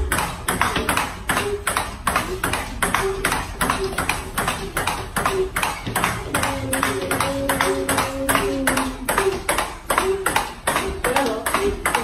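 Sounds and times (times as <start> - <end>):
ping pong ball hitting paddles: 0.0 - 12.0.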